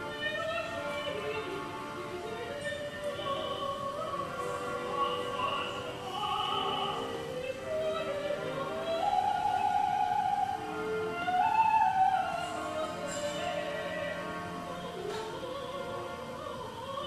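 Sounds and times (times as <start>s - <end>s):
operatic singing: 0.0s - 17.0s
orchestral accompaniment: 0.0s - 17.0s.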